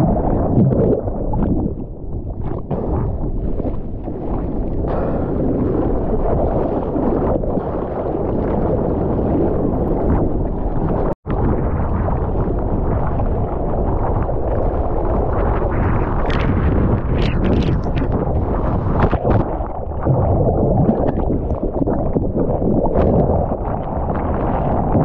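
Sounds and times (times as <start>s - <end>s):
water rushing and sloshing: 0.0s - 25.0s
wind buffeting microphone: 0.0s - 25.0s.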